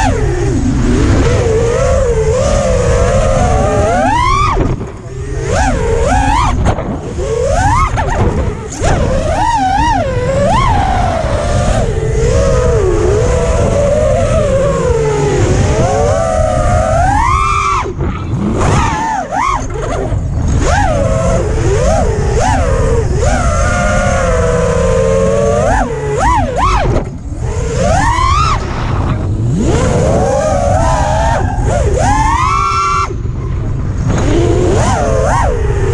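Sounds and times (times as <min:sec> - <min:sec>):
drone motors whining: 0:00.0 - 0:35.9
wind noise: 0:00.0 - 0:35.9.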